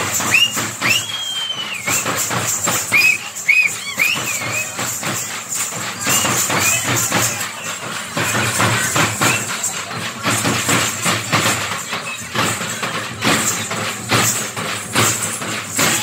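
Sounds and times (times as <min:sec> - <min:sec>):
high jangling hiss: 0:00.0 - 0:16.0
loud percussion: 0:00.0 - 0:16.0.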